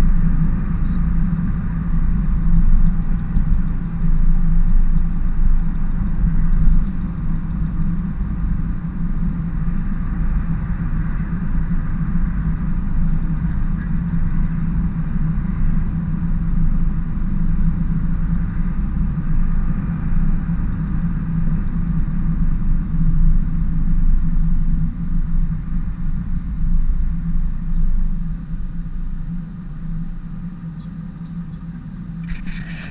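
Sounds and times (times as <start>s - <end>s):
road rumble: 0.0s - 32.9s.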